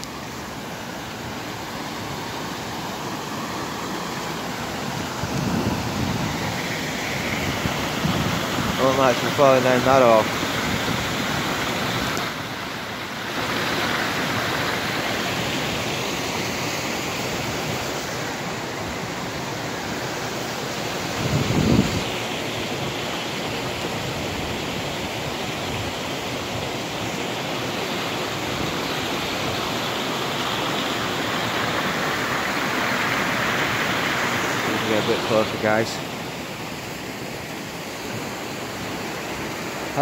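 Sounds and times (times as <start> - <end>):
stream rushing: 0.0 - 40.0.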